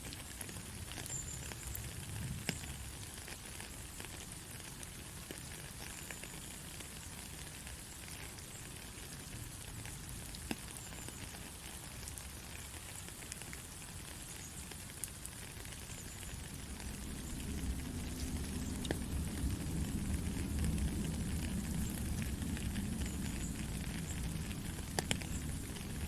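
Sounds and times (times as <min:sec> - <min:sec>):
gentle rain falling: 0:00.0 - 0:26.0
sharp water drips: 0:00.1 - 0:26.0.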